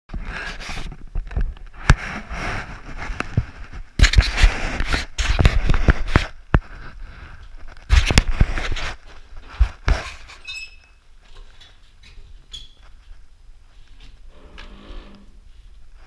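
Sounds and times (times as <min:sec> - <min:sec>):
fabric rustling against microphone: 0:00.2 - 0:10.4, 0:11.2 - 0:16.0.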